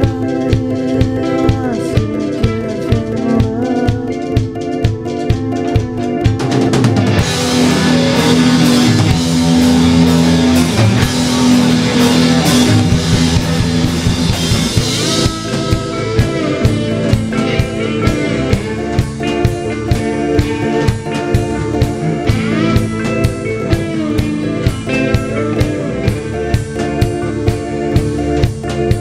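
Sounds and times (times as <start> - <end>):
drum kit: 0.0 - 29.0
electric guitar: 0.0 - 29.0.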